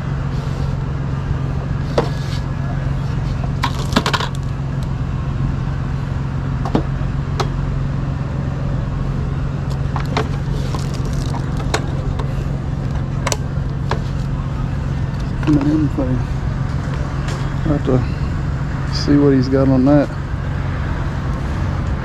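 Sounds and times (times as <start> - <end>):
outdoor background noise: 0.0 - 22.0
steady low hum: 0.0 - 22.0.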